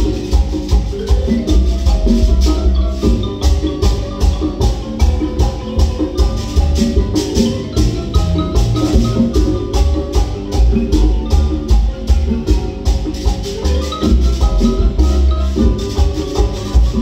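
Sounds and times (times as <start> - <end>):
congas: 0.0 - 17.0
double bass: 0.0 - 17.0
drum kit: 0.0 - 17.0
marimba melody: 0.0 - 17.0.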